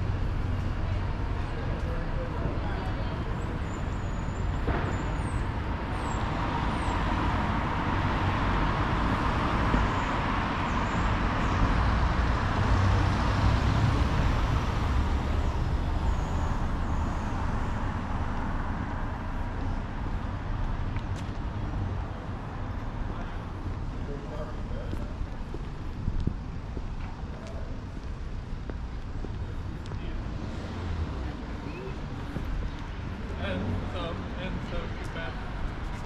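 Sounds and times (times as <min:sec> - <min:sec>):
cars passing close by: 0:00.0 - 0:36.0
low rumble of traffic: 0:00.0 - 0:36.0.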